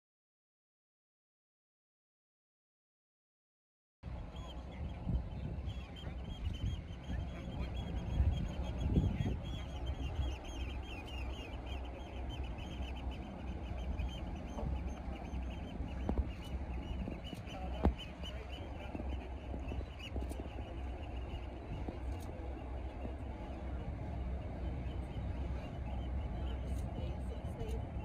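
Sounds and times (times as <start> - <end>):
boat engines rumbling: 4.1 - 28.0.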